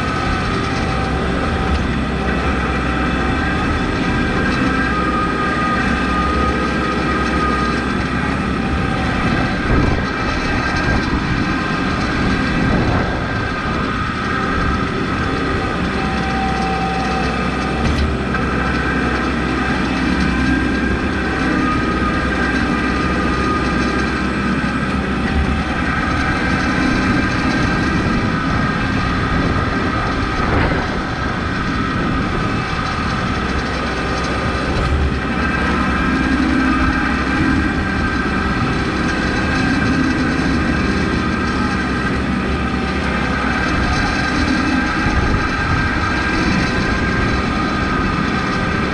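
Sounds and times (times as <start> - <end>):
tractor diesel engine whining: 0.0 - 48.9.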